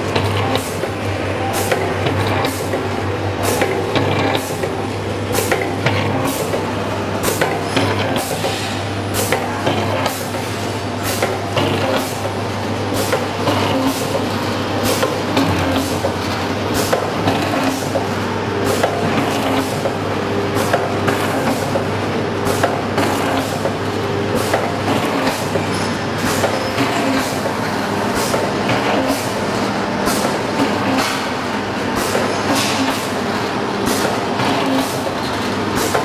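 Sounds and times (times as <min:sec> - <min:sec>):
machine clacking: 0:00.0 - 0:36.0
packaging machine hum: 0:00.0 - 0:36.0.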